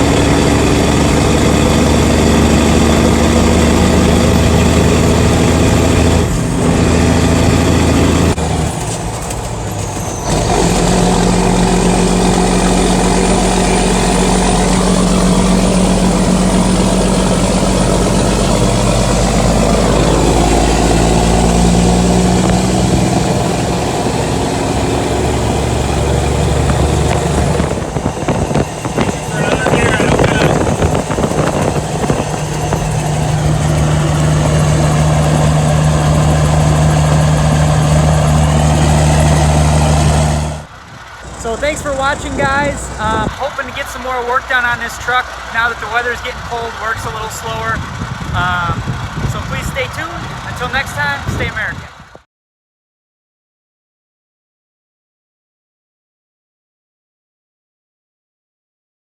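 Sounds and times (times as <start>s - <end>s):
diesel truck engine driving: 0.0s - 52.2s.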